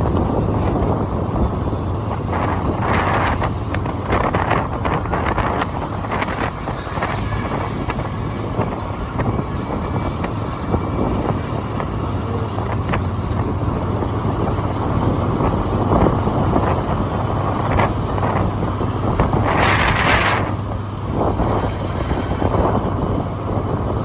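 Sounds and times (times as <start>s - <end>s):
motorcycle engine hum: 0.0s - 24.0s
road noise: 0.0s - 24.0s
wind rush on microphone: 0.0s - 24.0s.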